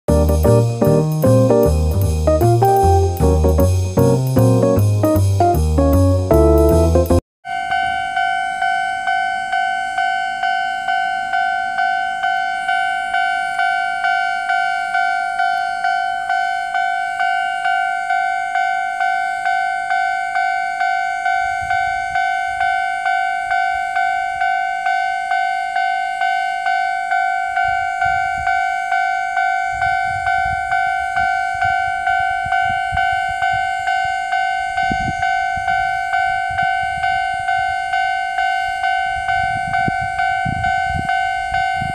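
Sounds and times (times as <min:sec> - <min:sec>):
level-crossing warning bell: 0:00.1 - 0:41.9.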